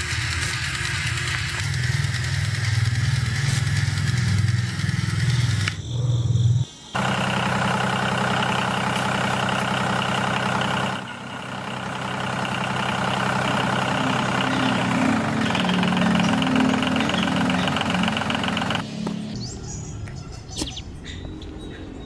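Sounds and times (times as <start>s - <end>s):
tractor engine running: 0.0s - 5.8s, 6.9s - 19.4s.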